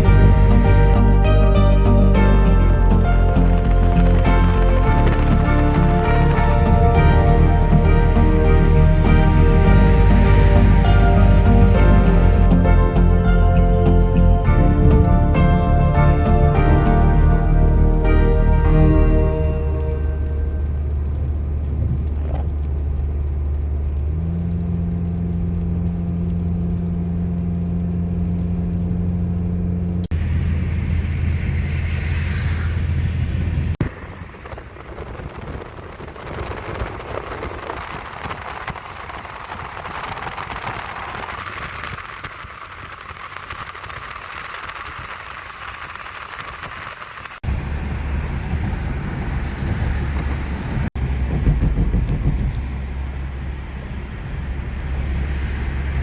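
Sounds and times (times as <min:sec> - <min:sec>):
engine and road noise: 0:00.0 - 0:56.0
rain and tyre spray hiss: 0:00.0 - 0:56.0.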